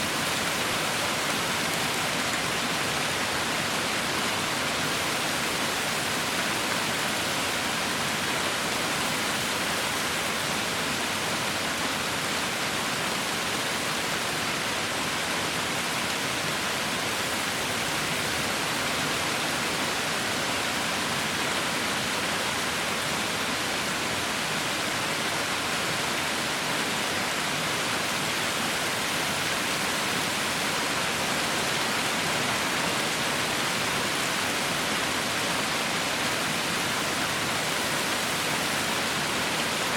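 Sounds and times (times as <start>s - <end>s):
heavy rain hissing: 0.0s - 14.4s, 15.7s - 39.9s.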